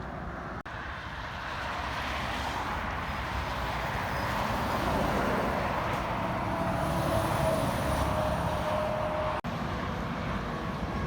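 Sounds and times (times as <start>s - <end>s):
passing vehicles rumble: 0.0s - 11.0s.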